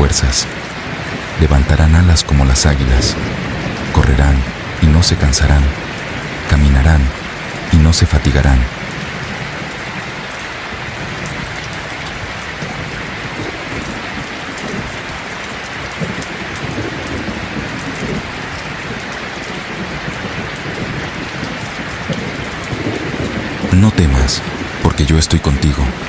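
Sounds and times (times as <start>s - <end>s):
rain falling on surfaces: 0.0s - 26.0s.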